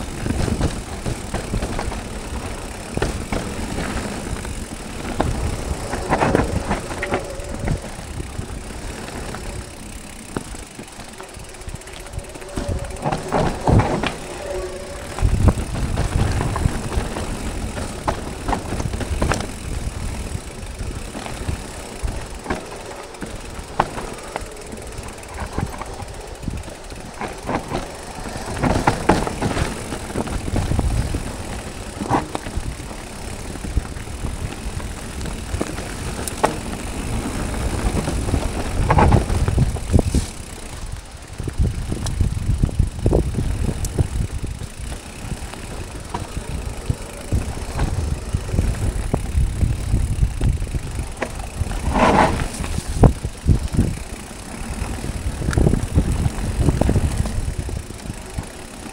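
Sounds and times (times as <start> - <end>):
bike clattering over roots: 0.0 - 58.9
tyres rumbling on dirt: 0.0 - 58.9.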